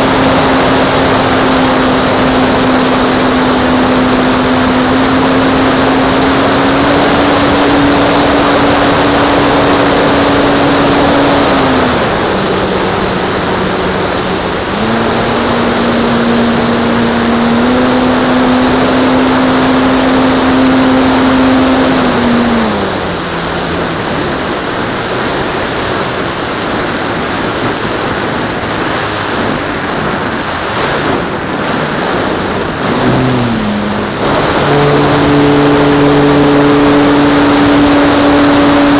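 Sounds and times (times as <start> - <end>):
model plane motor and propeller hum: 0.0 - 38.9.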